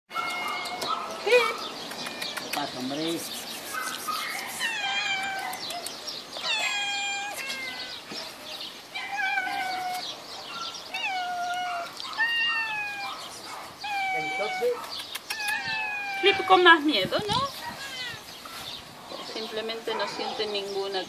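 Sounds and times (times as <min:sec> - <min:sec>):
cats meowing: 0:00.1 - 0:08.2, 0:08.9 - 0:10.1, 0:10.7 - 0:18.7.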